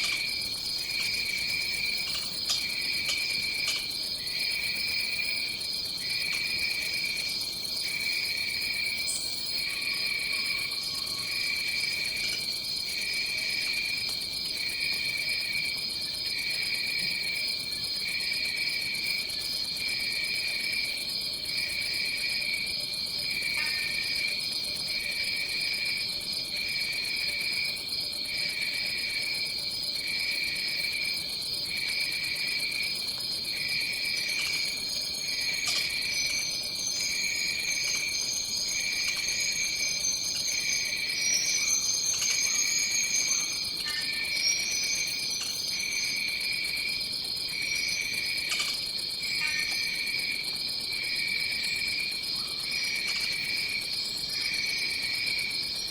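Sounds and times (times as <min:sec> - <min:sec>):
high pulsed insect trill: 0:00.0 - 0:14.0, 0:23.4 - 0:55.6
lower insect chirping: 0:00.0 - 0:55.9.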